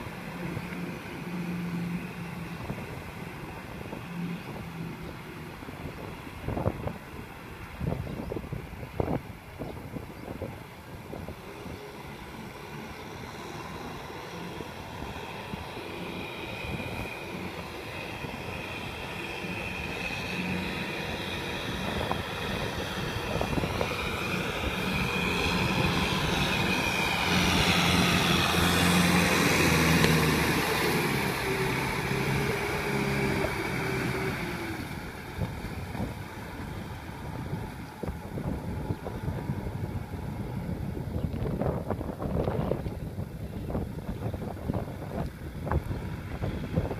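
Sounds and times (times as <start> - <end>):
rotary tiller churning water: 0.0 - 7.8, 11.0 - 46.9
tractor diesel engine under load: 0.0 - 46.9.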